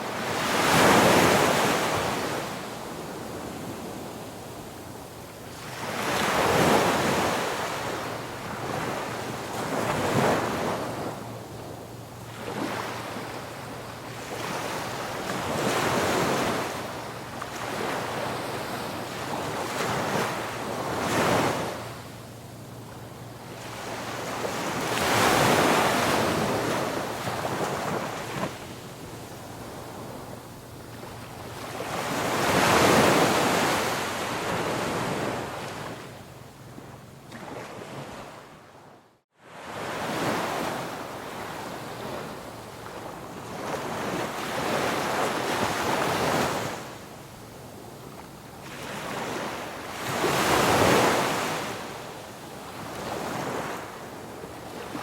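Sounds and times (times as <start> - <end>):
ocean waves breaking on a beach: 0.0 - 55.0.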